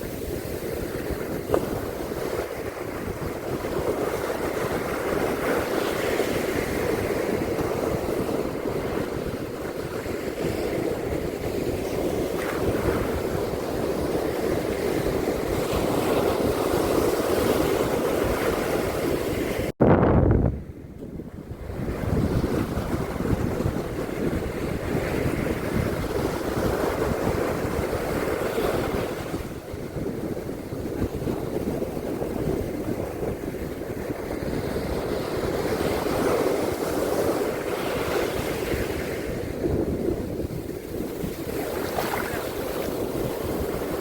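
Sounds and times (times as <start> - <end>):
sea waves breaking on a beach: 0.0 - 19.7, 21.2 - 44.0
wind buffeting the microphone: 0.0 - 44.0.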